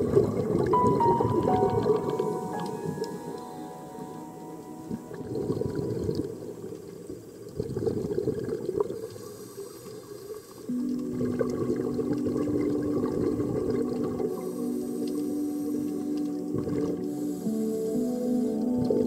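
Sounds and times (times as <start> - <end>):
underwater bubbles gurgling: 0.0 - 19.0.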